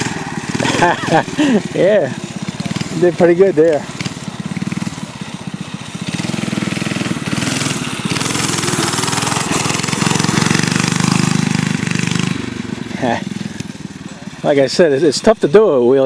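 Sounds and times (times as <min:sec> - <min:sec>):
mini bike engine revving: 0:00.0 - 0:16.0.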